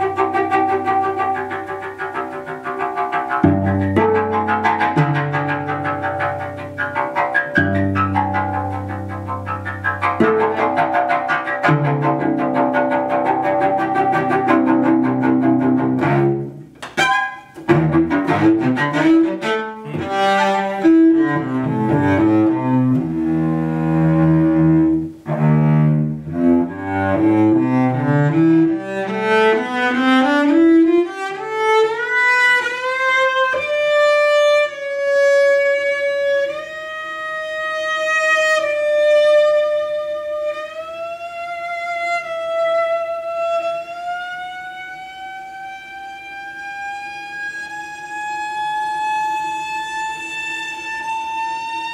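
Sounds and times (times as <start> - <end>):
solo cello bowed: 0.0 - 51.9.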